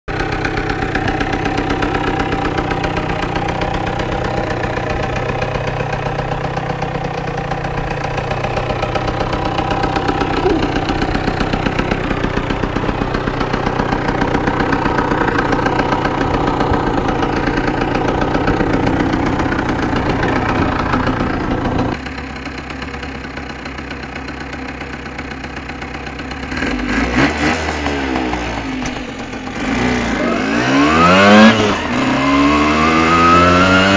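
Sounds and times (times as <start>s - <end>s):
moped engine running and revving: 0.1s - 33.9s.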